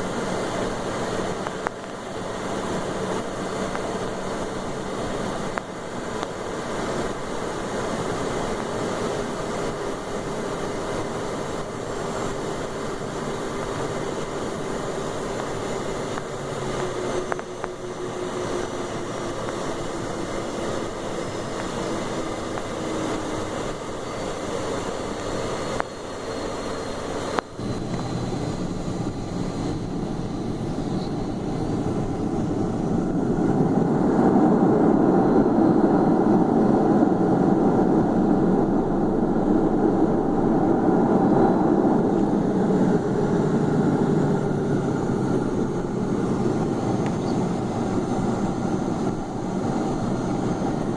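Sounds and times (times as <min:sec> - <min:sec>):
jet engine and rushing air: 0:00.0 - 0:50.9.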